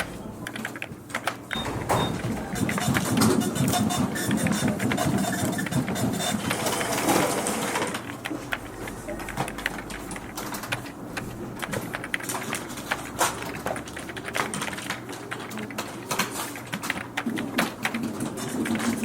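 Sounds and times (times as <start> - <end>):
fax machine whirring and clattering: 0.0 - 19.0.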